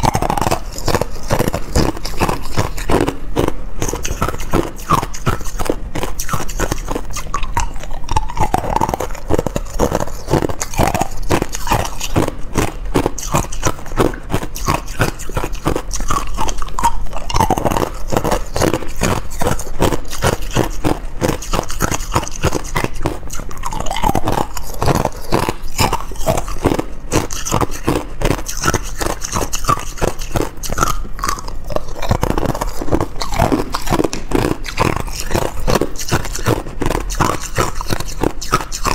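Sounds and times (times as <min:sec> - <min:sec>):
ice cubes crunched by chewing: 0:00.0 - 0:38.9.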